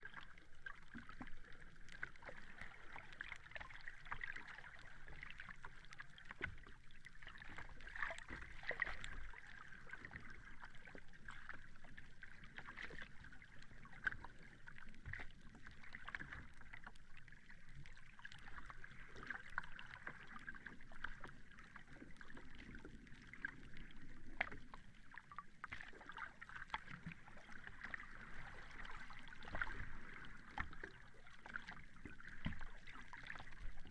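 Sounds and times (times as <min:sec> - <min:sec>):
sea water lapping and sloshing: 0:00.0 - 0:33.9
small water splashes: 0:00.0 - 0:33.9.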